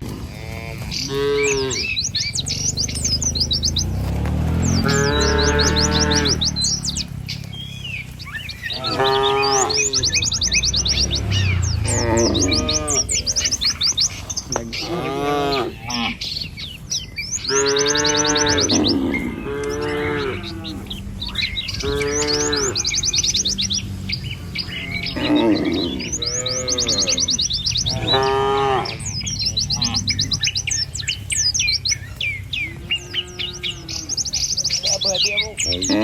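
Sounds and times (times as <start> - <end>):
cattle mooing: 0.0 - 16.3, 17.4 - 31.1, 32.6 - 36.0
birds chirping in trills: 0.0 - 36.0.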